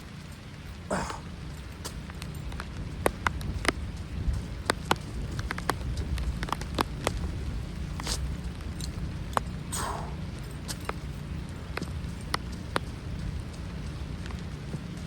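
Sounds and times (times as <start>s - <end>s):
heavy rain rumble: 0.0s - 15.0s.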